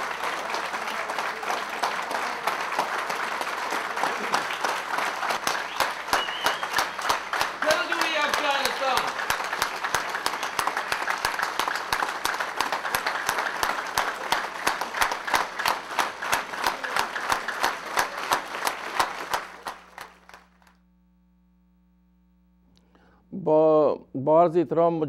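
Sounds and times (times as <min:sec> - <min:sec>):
applause: 0:00.0 - 0:20.8
crowd clapping in unison: 0:00.0 - 0:20.8.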